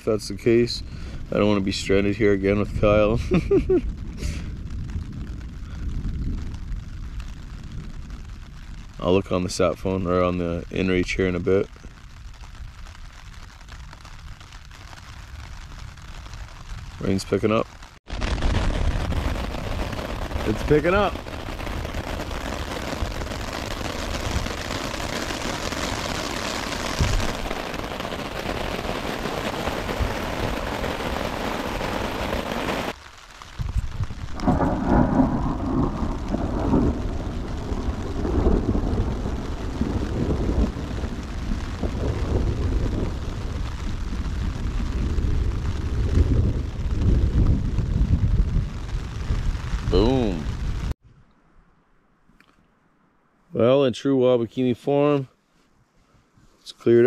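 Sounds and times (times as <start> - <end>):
heavy rain falling: 0.0 - 51.0
low rumbling: 0.0 - 51.6.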